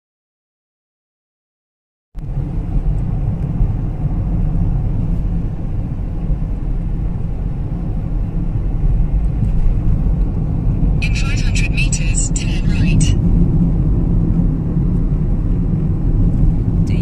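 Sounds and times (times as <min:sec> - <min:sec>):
car engine and tyre rumble: 0:02.2 - 0:17.0.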